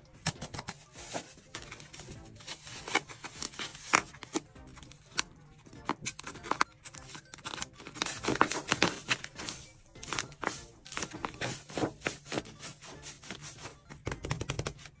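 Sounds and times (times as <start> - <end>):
background music: 0.0 - 15.0
paper squishy crinkling: 0.1 - 14.1.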